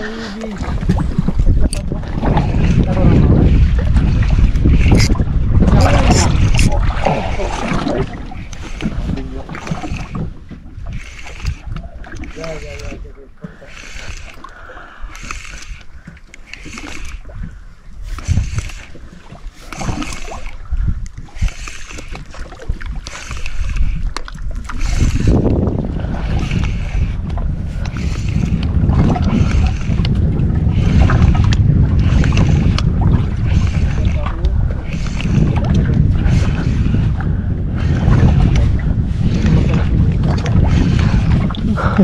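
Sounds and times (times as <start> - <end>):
water and wind noise: 0.0 - 42.0.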